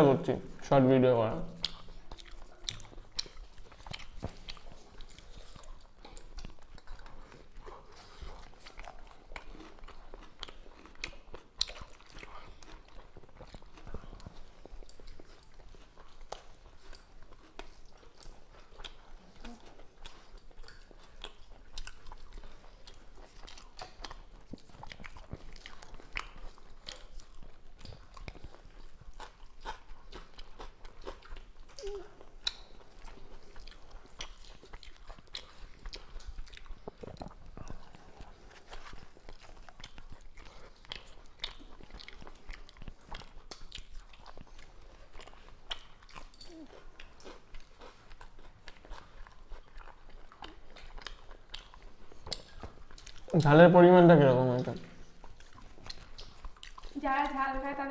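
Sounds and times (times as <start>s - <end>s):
people chewing and smacking: 0.0s - 57.9s
small mouth clicks: 1.5s - 53.4s, 54.6s - 57.4s.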